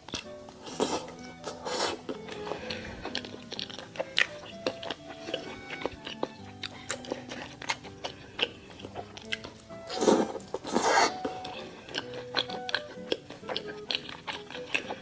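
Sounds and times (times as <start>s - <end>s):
close chewing and biting food: 0.0s - 15.0s
soft background music: 0.0s - 15.0s.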